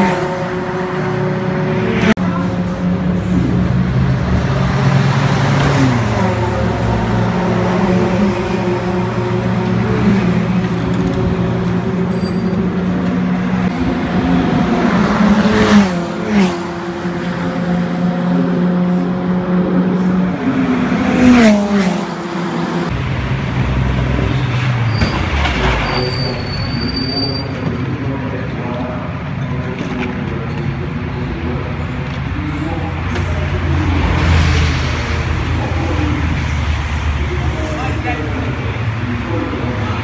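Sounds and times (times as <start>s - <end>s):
steady engine drone: 0.0s - 24.5s, 26.9s - 40.0s
race cars passing at speed: 0.0s - 40.0s.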